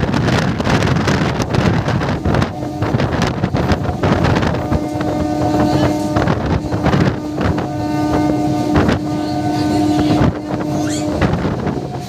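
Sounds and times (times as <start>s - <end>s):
rumble of wheels on rail: 0.0s - 12.0s
wind buffeting microphone: 0.0s - 12.0s.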